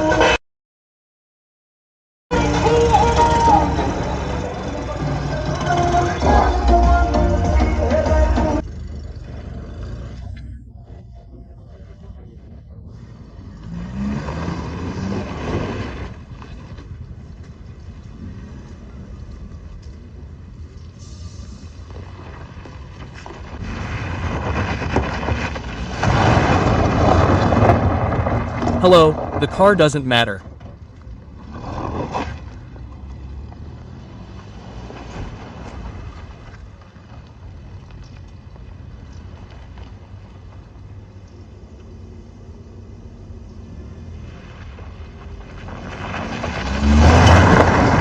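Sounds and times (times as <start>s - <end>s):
motor vehicle engine rumble: 2.3s - 29.4s, 30.5s - 48.0s.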